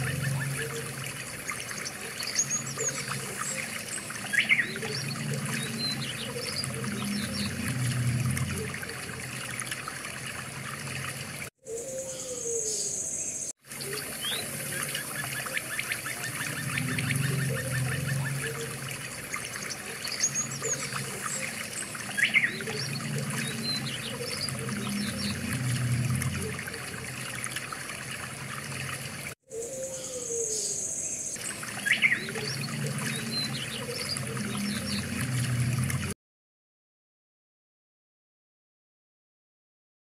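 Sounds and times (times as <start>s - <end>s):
birds chirping and calling: 0.0s - 10.1s, 11.7s - 28.0s, 29.5s - 35.5s
trickling water: 0.0s - 36.2s.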